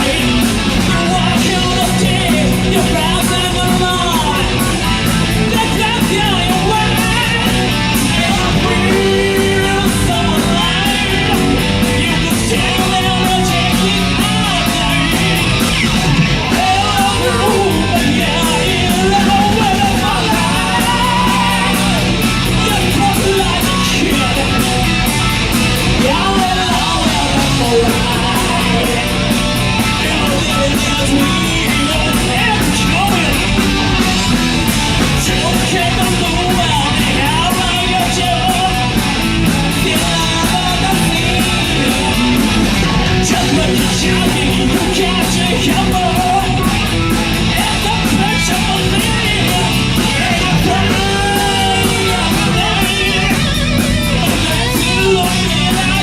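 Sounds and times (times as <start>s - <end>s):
bass: 0.0s - 56.0s
distorted electric guitar: 0.0s - 56.0s
drums: 0.0s - 56.0s.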